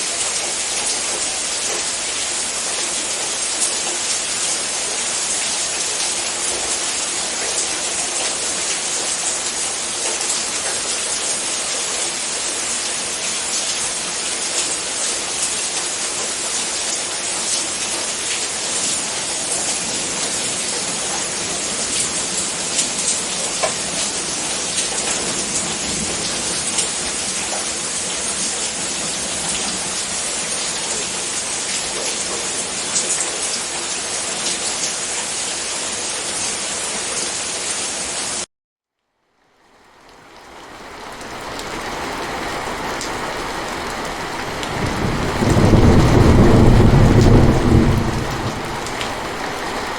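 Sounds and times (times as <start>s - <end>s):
rain falling: 0.0s - 38.5s, 39.2s - 49.9s.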